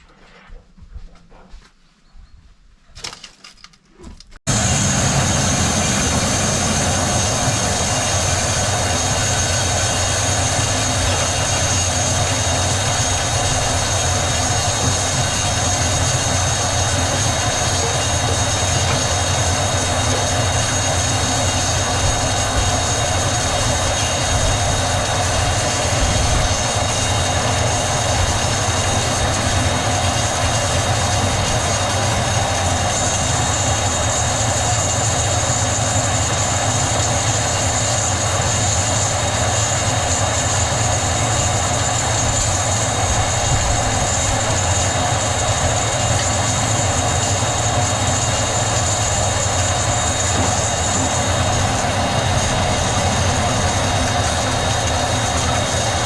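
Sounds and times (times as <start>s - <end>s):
high-pitched whine: 4.5s - 56.0s
sawmill machinery humming: 4.5s - 56.0s.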